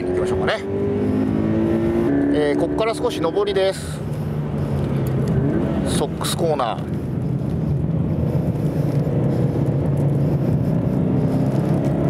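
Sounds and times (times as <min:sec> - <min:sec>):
car engine running under load: 0:00.0 - 0:12.0.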